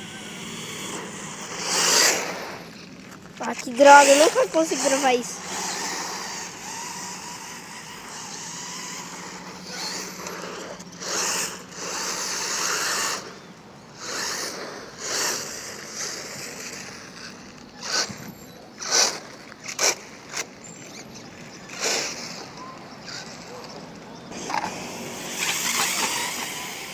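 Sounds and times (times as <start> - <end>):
toy car tyres scrabbling on gravel: 0.0 - 26.9.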